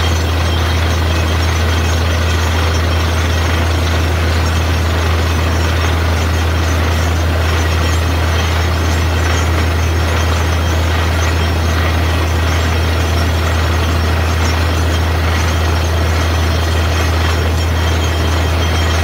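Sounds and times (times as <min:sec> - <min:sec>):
constant noisy rush: 0:00.0 - 0:19.0
drilling rig engine drone: 0:00.0 - 0:19.0.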